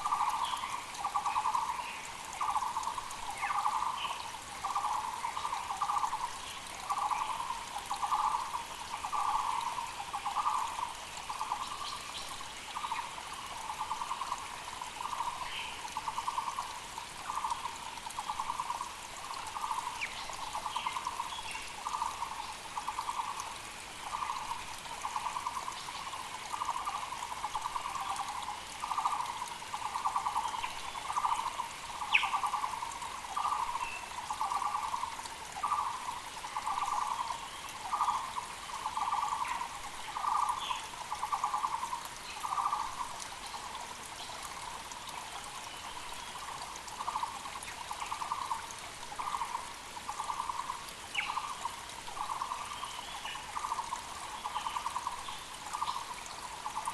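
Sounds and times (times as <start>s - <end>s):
creek running: 0.0s - 56.9s.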